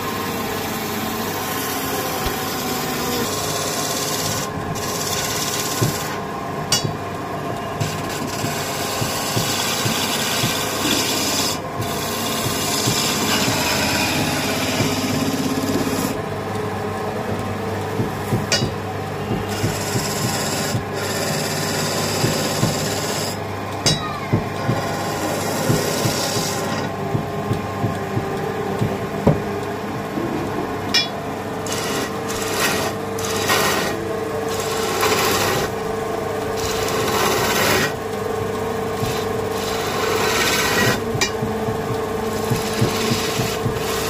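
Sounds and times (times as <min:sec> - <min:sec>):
chisel cutting wood on lathe: 0:00.0 - 0:06.8, 0:07.7 - 0:16.2, 0:18.0 - 0:23.4, 0:24.4 - 0:28.9, 0:31.6 - 0:44.0.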